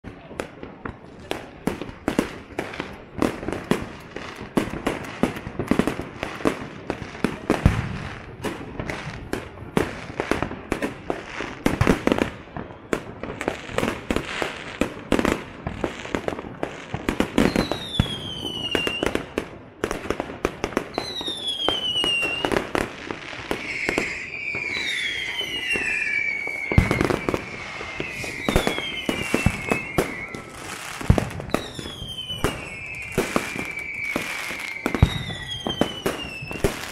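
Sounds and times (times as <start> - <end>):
fireworks bangs and crackles: 0.0 - 36.9
whistling fireworks: 0.0 - 36.9.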